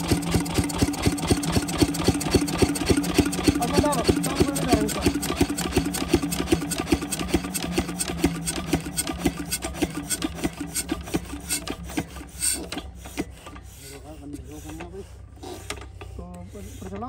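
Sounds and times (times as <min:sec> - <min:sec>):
diesel engine running: 0:00.0 - 0:14.6.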